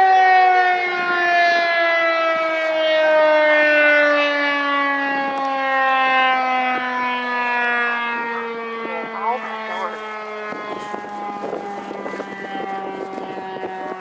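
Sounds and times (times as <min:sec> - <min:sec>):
warning siren winding down: 0:00.0 - 0:14.0.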